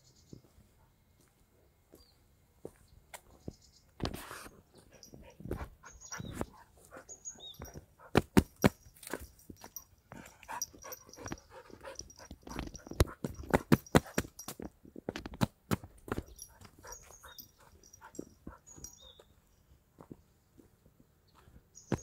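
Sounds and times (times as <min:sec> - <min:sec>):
steps and knocks on dirt road: 0:01.2 - 0:22.0.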